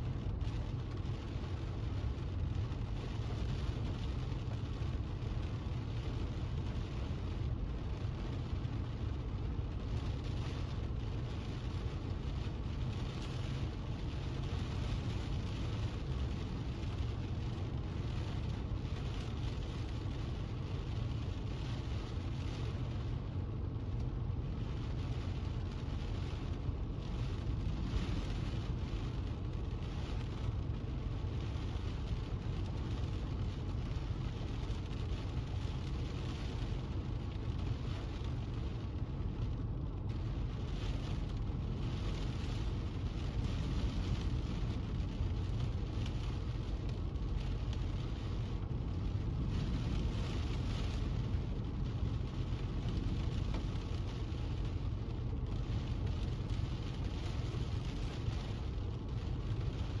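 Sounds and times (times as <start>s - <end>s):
car rumbling on road: 0.0s - 60.0s
rain hissing on car: 0.0s - 60.0s.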